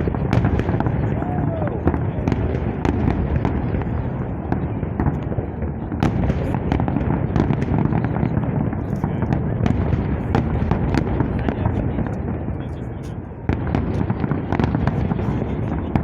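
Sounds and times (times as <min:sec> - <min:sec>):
fireworks bangs rumbling: 0:00.0 - 0:16.0.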